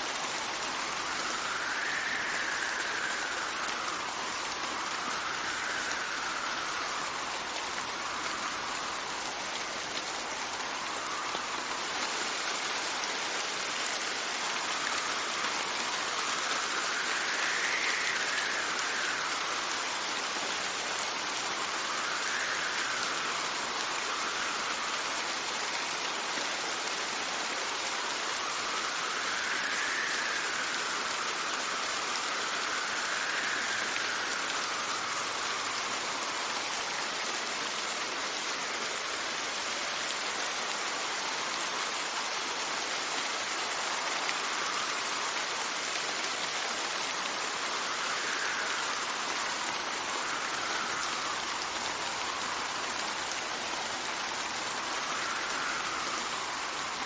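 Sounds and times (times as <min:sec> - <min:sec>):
steady rain falling: 0:00.0 - 0:57.0
wind gusts: 0:00.0 - 0:57.0.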